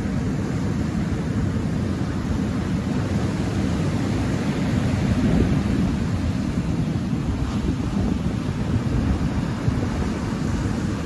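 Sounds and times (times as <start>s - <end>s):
waves breaking on a pebble beach: 0.0s - 11.0s.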